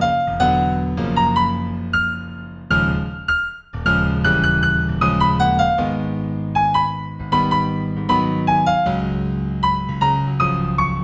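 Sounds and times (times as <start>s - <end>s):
slow solo piano piece: 0.0s - 11.0s.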